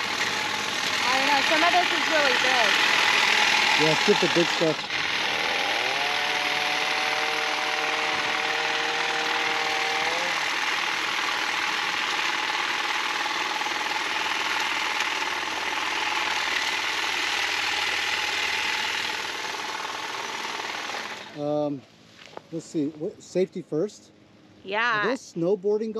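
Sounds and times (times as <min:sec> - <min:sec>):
chainsaw chain rasping: 0:00.0 - 0:21.4
chainsaw motor whine: 0:00.0 - 0:21.7.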